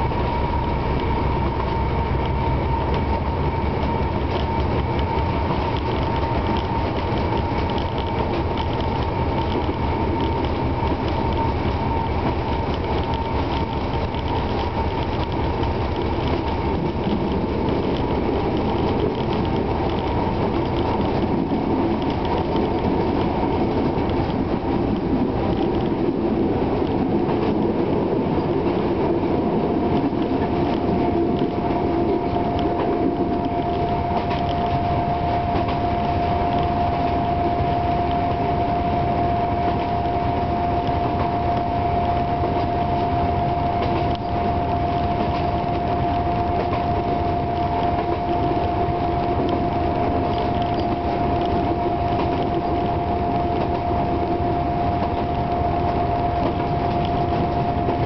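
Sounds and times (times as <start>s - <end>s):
steady high whine: 0.0s - 58.0s
wheels rolling on track: 0.0s - 58.0s.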